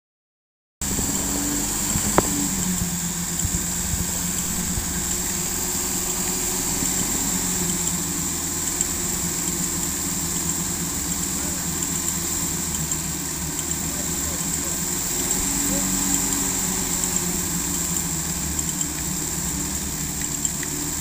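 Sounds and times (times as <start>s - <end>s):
vehicle engine idling: 0.8s - 21.0s.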